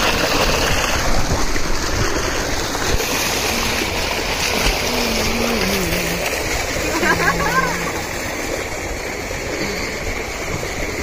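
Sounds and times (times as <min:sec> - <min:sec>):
water gushing into a tank: 0:00.0 - 0:11.0.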